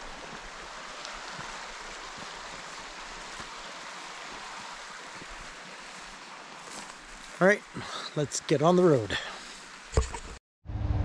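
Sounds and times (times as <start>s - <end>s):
stream water rushing: 0.0s - 10.1s.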